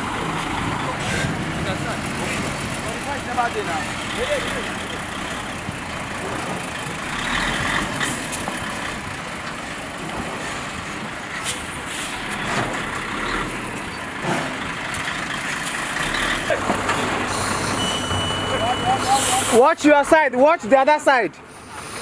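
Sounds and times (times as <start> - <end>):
traffic: 0.0 - 22.0.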